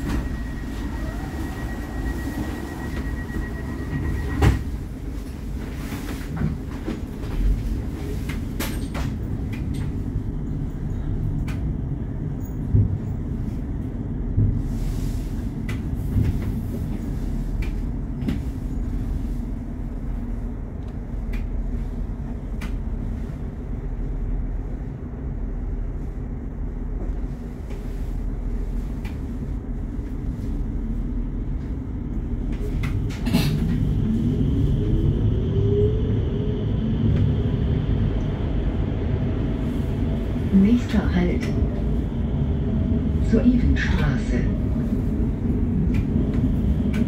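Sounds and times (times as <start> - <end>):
train low rumble: 0.0 - 47.0.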